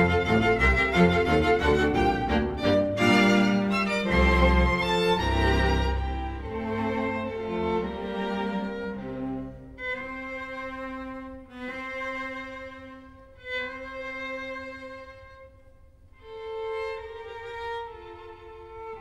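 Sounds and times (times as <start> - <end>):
slow bowed string music: 0.0 - 19.0.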